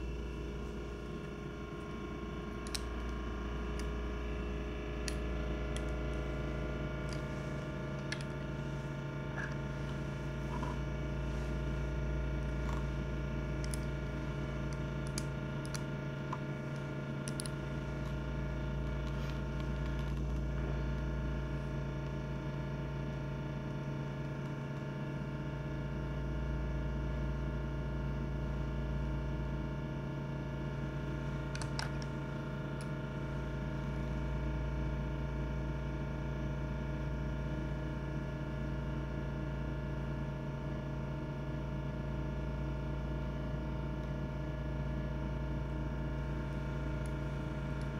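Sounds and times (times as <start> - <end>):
steady background hum: 0.0 - 47.9.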